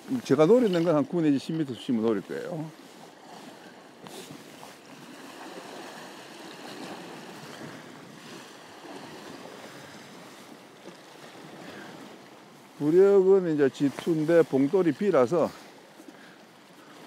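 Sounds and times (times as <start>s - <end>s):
waves on rocky shore: 0.0s - 17.0s.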